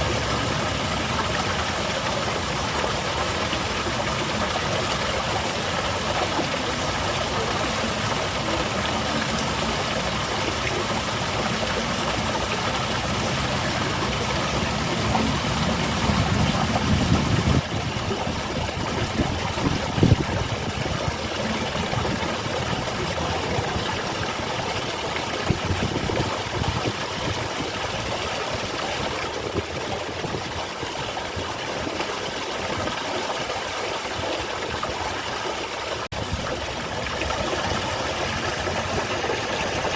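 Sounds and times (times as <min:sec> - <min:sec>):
waterfall splashing and rushing: 0:00.0 - 0:39.9.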